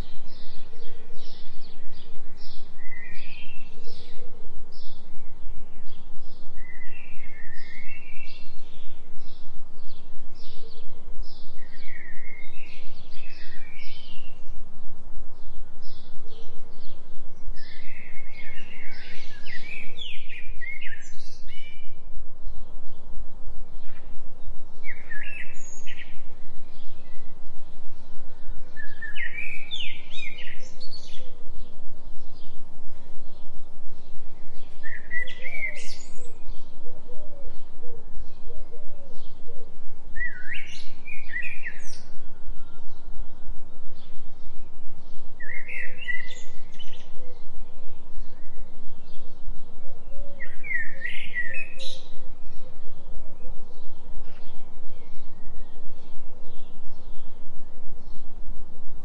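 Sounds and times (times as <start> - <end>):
birds chirping and singing: 0.0 - 14.7, 15.3 - 23.0, 23.8 - 58.6
pulsing low binaural tone: 0.0 - 59.0.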